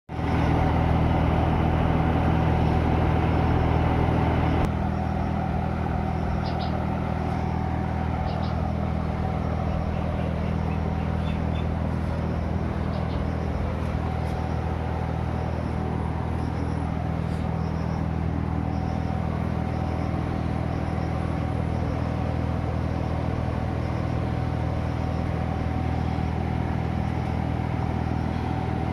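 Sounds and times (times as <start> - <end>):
exhaust fan humming: 0.1 - 28.9.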